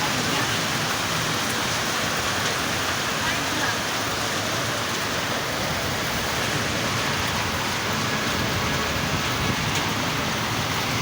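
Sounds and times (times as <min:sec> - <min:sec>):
rain pattering on surfaces: 0:00.0 - 0:11.0.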